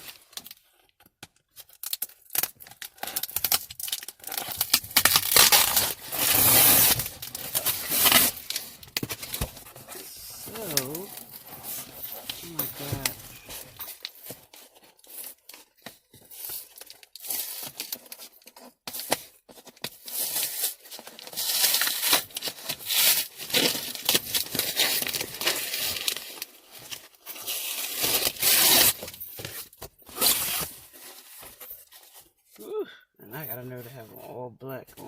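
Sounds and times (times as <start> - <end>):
package ripping and crinkling: 1.5 - 31.6.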